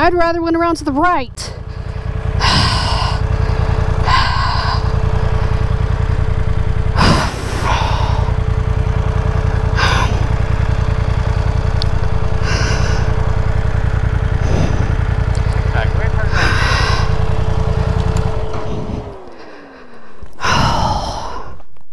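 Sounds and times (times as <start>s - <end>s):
motorcycle engine idling: 0.0s - 21.7s.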